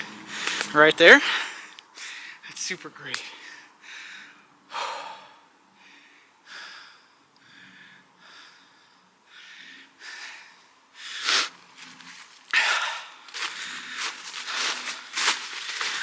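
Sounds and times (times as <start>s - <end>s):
person breathing heavily: 0.0s - 2.4s, 3.2s - 11.6s, 12.5s - 16.0s.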